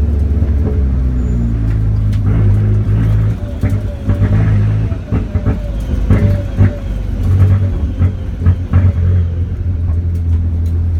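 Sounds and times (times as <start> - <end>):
car engine running: 0.0 - 10.9
engine misfire stutters: 0.0 - 10.9.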